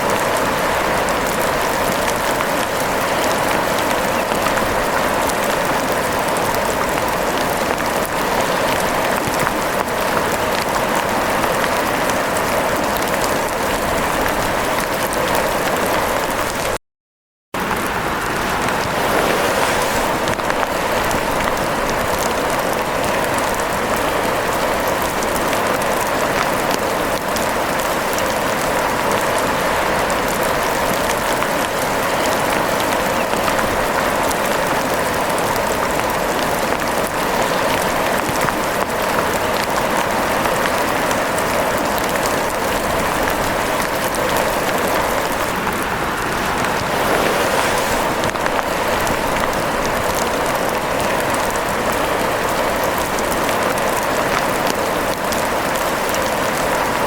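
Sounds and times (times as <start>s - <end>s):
steady rain falling: 0.0s - 16.8s, 17.6s - 57.0s.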